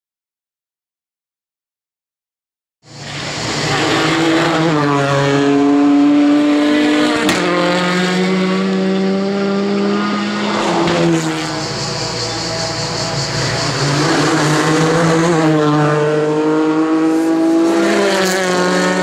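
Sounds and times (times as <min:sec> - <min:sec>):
race car engine changing gears: 0:03.0 - 0:19.0.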